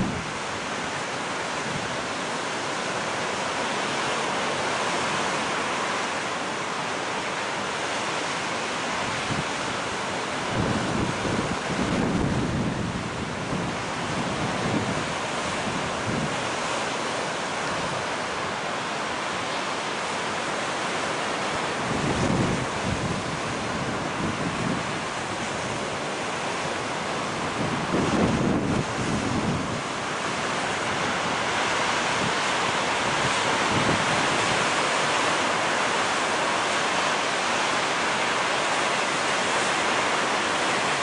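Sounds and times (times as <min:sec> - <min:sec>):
waves breaking: 0:00.0 - 0:41.0.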